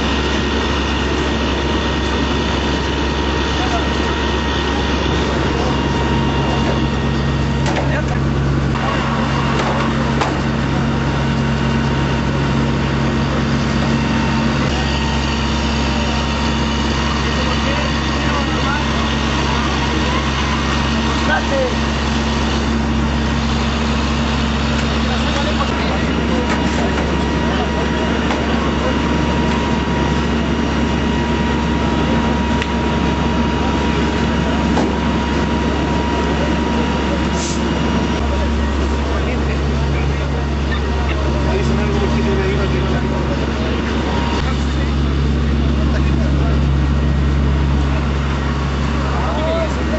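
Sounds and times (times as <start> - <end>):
fire truck engine running: 0.0 - 49.9.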